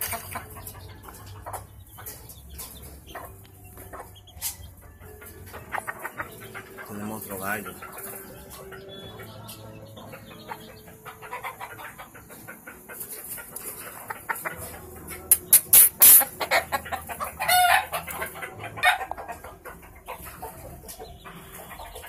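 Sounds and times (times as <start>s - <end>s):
roosters clucking: 0.0s - 22.0s.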